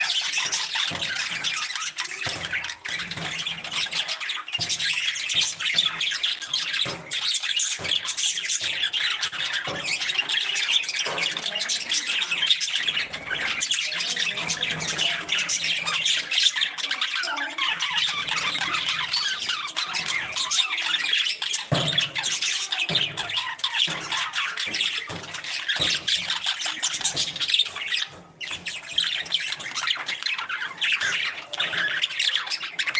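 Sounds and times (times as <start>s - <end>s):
parrots chattering and squawking: 0.0s - 32.9s.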